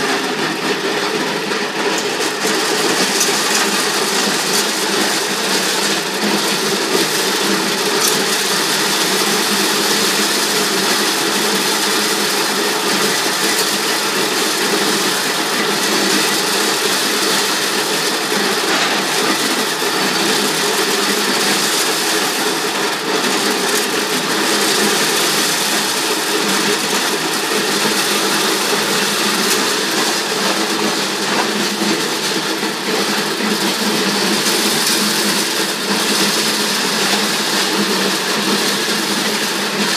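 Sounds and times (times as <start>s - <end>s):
maize sheller running: 0.0s - 39.9s.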